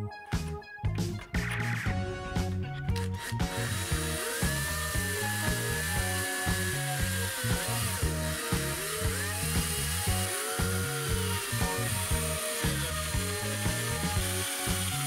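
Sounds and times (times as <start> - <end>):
background music with bass line: 0.0 - 15.0
electric drill boring through metal: 2.9 - 15.0.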